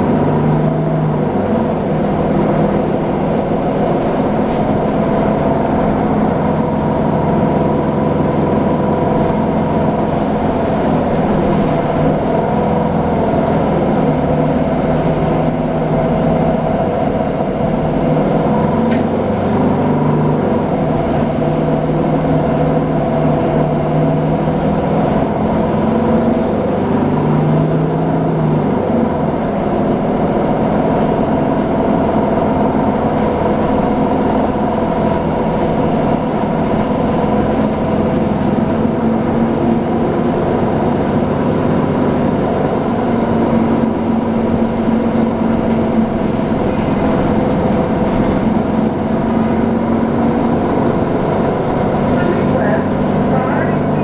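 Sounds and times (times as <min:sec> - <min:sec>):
bus drivetrain hum: 0:00.0 - 0:54.0.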